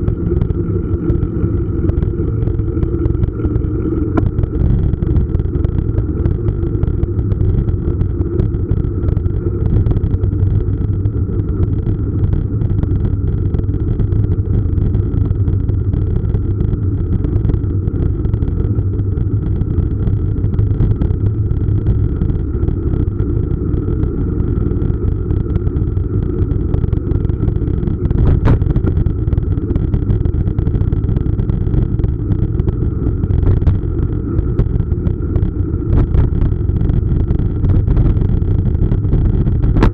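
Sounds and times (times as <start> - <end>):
faint steady whine: 0.0 - 39.9
wind and road rumble: 0.0 - 39.9.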